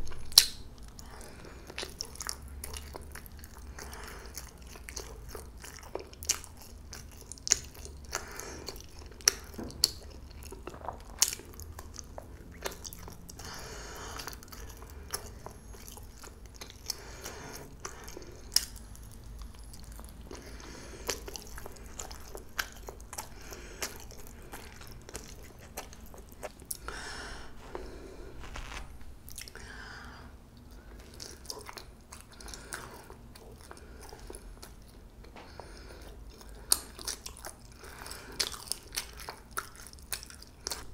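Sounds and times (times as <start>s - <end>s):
chewing soft food: 0.0s - 40.9s.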